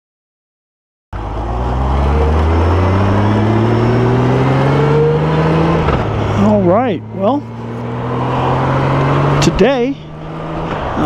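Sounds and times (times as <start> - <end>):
motorcycle engine accelerating: 1.2 - 11.0.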